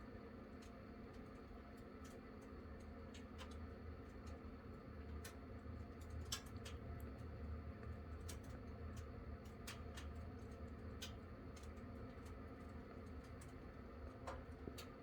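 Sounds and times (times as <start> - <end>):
wood stove fire crackling: 0.4 - 15.0.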